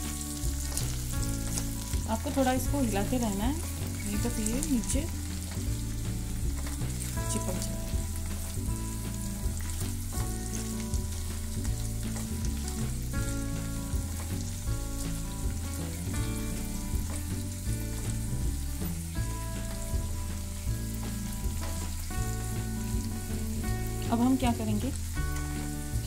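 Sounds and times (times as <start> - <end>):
background music with a beat: 0.0 - 26.0
oil sizzling in a pan: 0.0 - 26.0.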